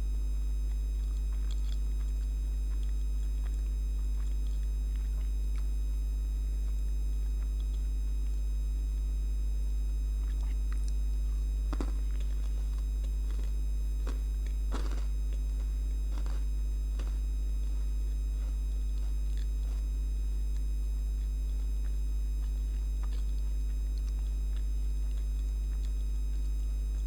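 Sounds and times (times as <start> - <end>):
light fixture electrical hum: 0.0 - 27.0.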